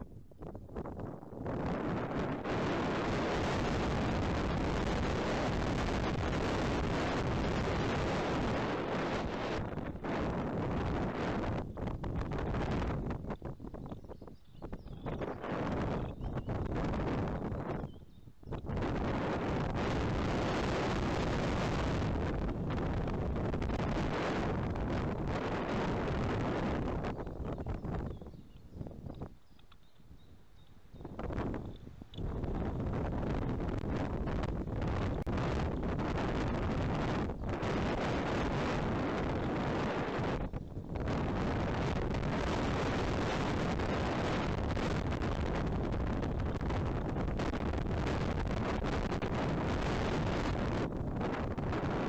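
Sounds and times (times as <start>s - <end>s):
wind gusting against microphone: 0.0s - 52.0s.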